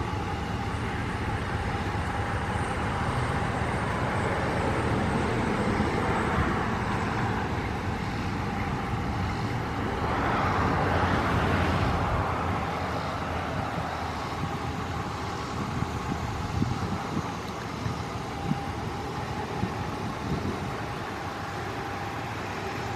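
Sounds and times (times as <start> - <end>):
motor vehicle noise: 0.0 - 22.9.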